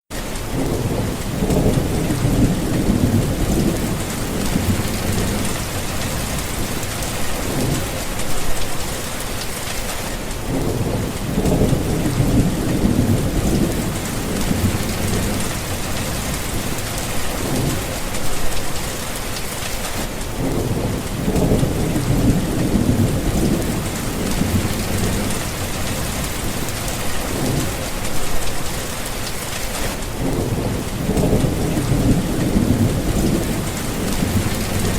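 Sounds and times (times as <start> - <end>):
heavy rain falling: 0.1 - 34.9
low rolling thunder: 0.4 - 8.9, 10.4 - 18.9, 20.3 - 28.9, 29.9 - 34.9.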